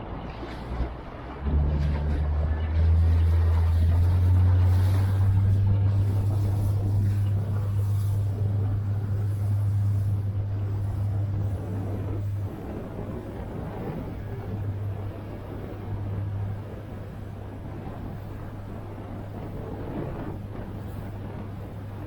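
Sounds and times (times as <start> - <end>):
motorboat engine drone: 0.0 - 22.0
water rushing past hull: 0.0 - 22.0.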